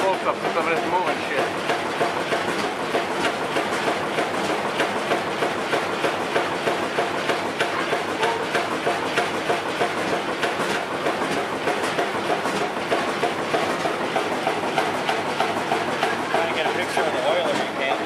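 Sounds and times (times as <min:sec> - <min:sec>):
stationary engine running: 0:00.0 - 0:18.0.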